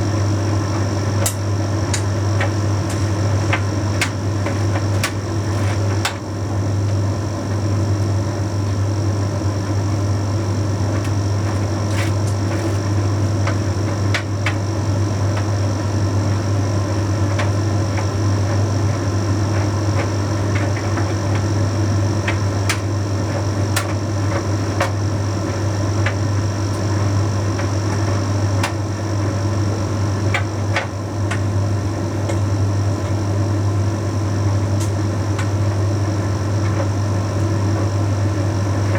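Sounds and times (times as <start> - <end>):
tumble dryer hum and rumble: 0.0 - 38.9.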